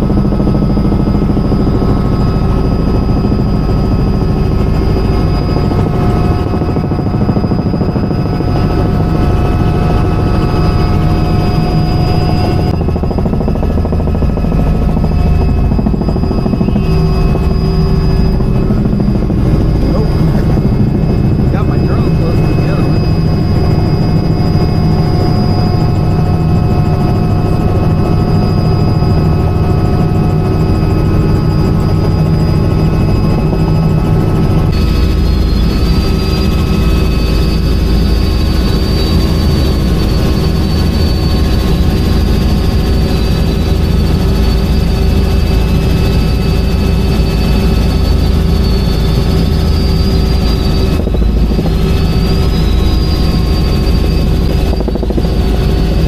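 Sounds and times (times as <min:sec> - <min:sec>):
helicopter turbine and rotor: 0:00.0 - 0:56.0.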